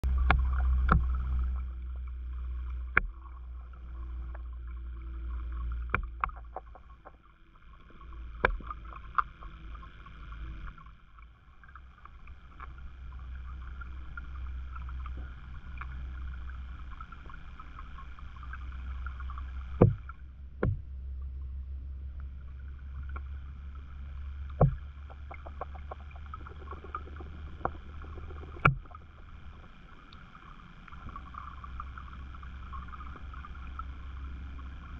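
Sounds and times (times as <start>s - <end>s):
muffled underwater rumble and hiss: 0.0s - 34.9s.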